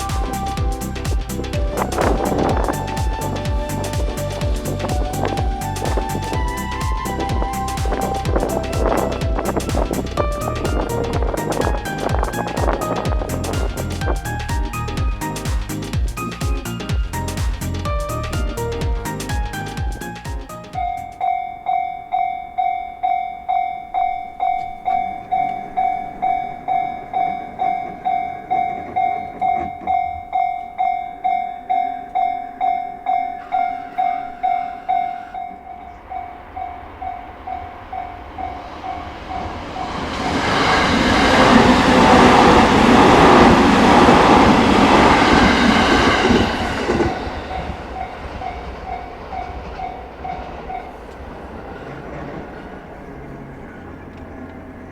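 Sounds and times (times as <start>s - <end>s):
level crossing warning bell: 0.0s - 15.4s, 19.9s - 51.2s
train passing loudly: 0.0s - 54.9s.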